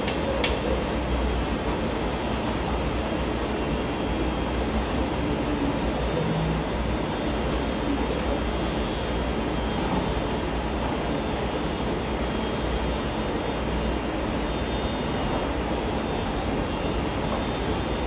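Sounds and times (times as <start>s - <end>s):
steady background roar: 0.0s - 18.0s.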